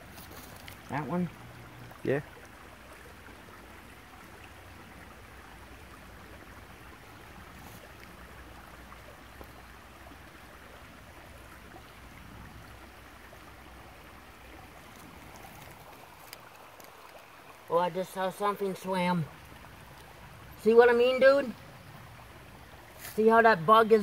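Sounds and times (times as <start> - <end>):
creek water flowing over rocks: 0.0 - 24.0.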